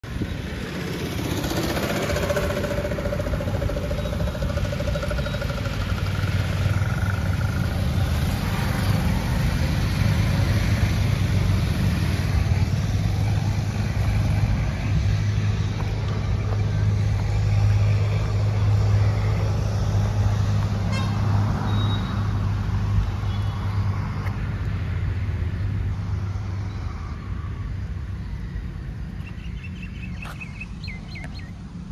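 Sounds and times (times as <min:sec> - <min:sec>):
road noise: 0:00.0 - 0:31.9
vehicle engine drone: 0:00.0 - 0:31.9.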